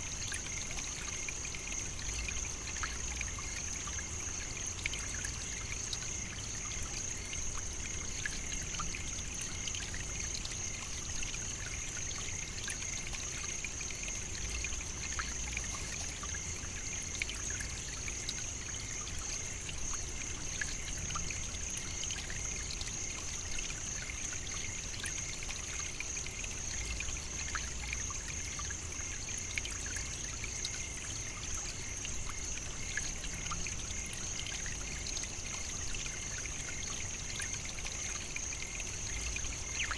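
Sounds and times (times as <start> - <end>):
high-pitched insect chorus: 0.1 - 39.9.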